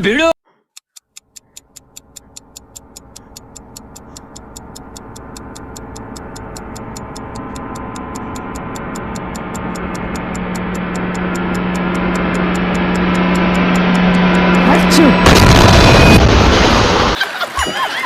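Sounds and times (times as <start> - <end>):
steady ticking: 0.6 - 16.4
suspense drone: 1.0 - 17.2.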